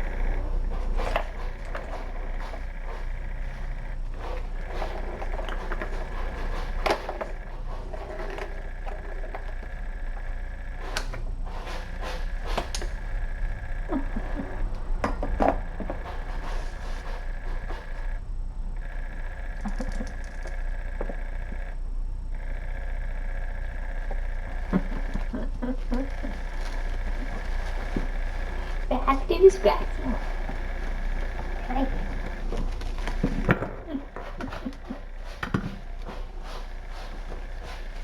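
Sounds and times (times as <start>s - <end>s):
electrical hum: 0.0s - 38.0s
kittens scratching and knocking: 0.0s - 38.0s.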